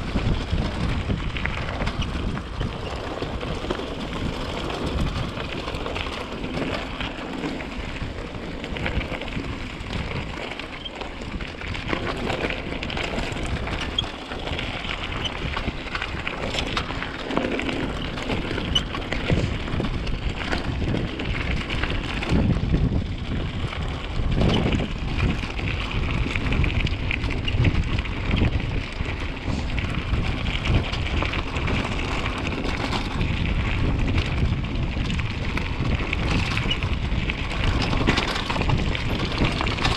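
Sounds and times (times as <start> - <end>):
bike knocks and rattles: 0.0 - 39.9
bike tyres rumbling on trail: 0.0 - 39.9
wind buffeting microphone: 0.0 - 39.9.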